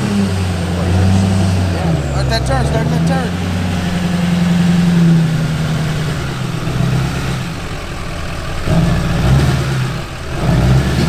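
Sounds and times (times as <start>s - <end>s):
diesel pickup engine running: 0.0s - 11.0s.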